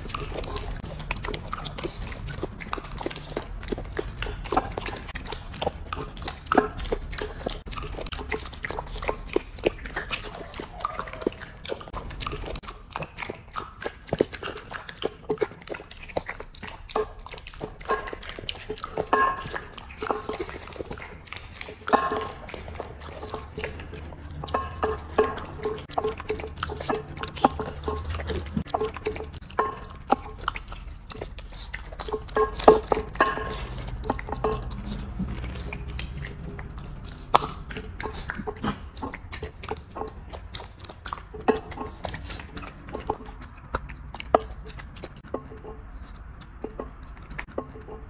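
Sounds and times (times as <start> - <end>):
puppies chewing and lapping: 0.0 - 48.0.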